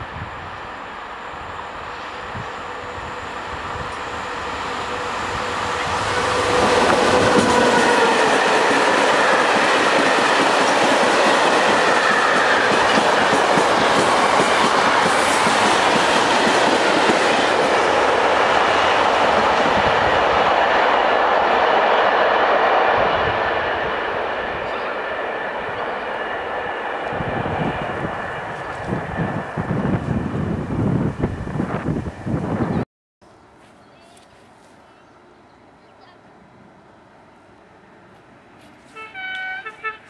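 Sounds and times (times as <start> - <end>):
freight train passing: 0.0 - 32.8.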